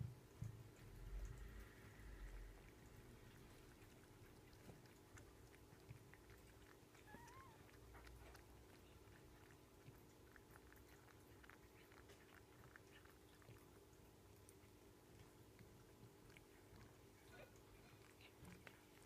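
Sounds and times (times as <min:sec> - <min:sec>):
cat licking kitten: 0:00.0 - 0:19.0
low room hum: 0:00.0 - 0:19.0.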